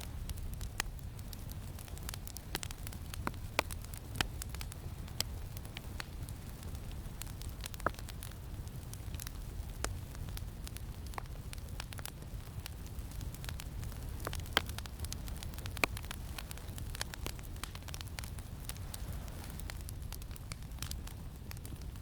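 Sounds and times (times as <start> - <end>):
campfire crackling and popping: 0.0 - 22.0
low rumble of wind: 0.0 - 22.0.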